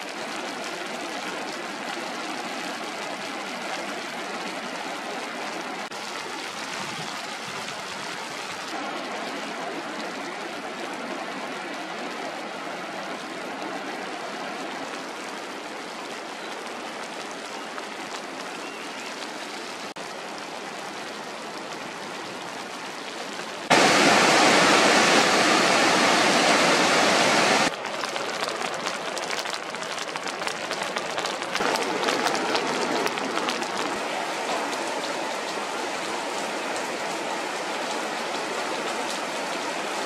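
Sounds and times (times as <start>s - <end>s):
rain: 0.0s - 40.0s
water rushing: 0.0s - 40.0s.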